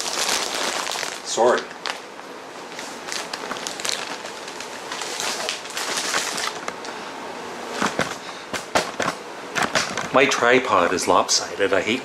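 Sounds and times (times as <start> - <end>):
rustling and handling noise: 0.0 - 10.3.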